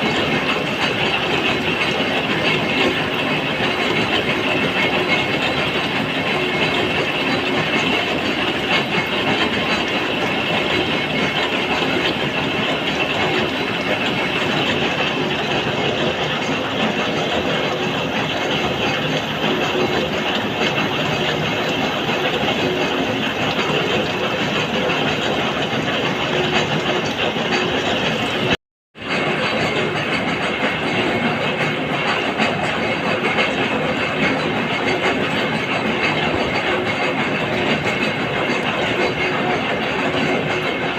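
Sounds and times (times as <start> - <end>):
machine tool running: 0.0 - 40.9.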